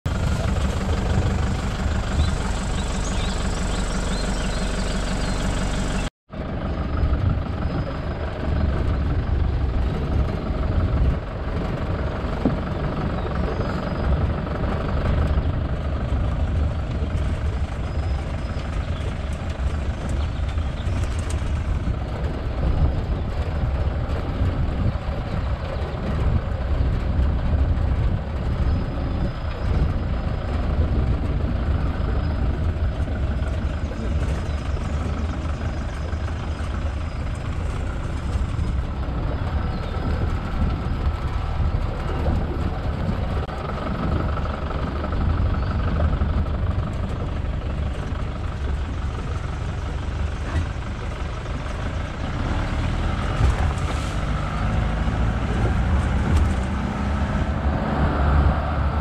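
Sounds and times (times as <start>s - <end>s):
vehicle driving with engine rumble: 0.0s - 59.0s
vehicle engine idling: 0.0s - 59.0s.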